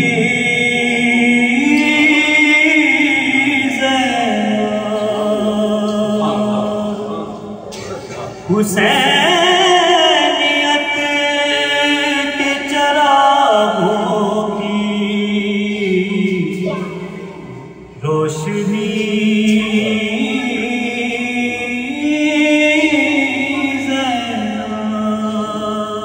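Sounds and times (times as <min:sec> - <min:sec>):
man chanting: 0:00.0 - 0:26.0.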